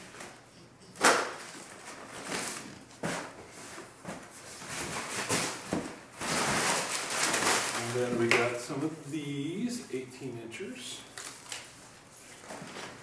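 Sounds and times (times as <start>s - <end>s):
packing paper rustling: 1.0s - 9.7s, 11.0s - 13.0s.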